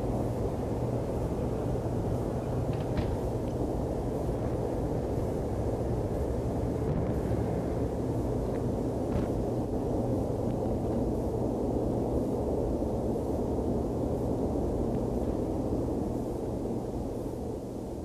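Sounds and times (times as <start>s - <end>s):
steady low rumbling: 0.0s - 17.7s.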